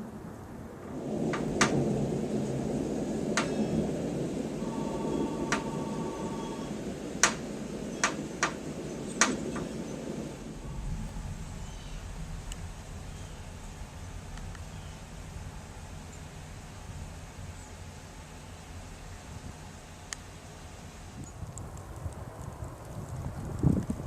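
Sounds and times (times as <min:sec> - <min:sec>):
rolling thunder: 0:00.0 - 0:24.0.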